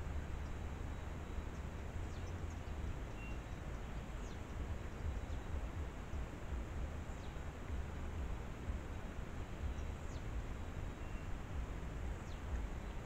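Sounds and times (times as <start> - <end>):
microphone hiss and low rumble: 0.0 - 13.0
small birds chipping: 0.0 - 13.0.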